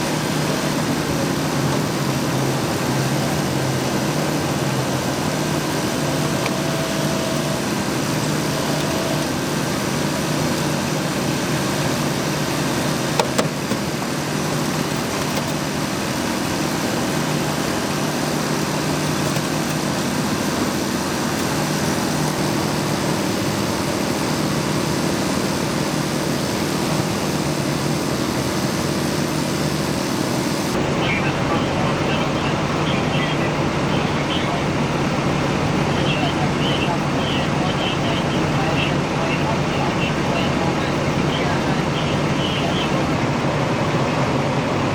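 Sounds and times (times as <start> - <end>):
idling engine drone: 0.0 - 44.9.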